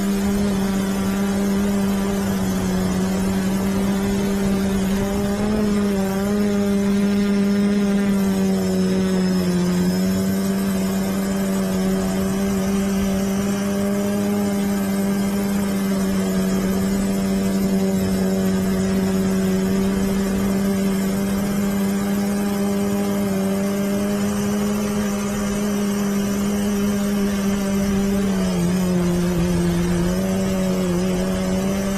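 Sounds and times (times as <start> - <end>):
quadcopter motors buzzing: 0.0 - 31.9.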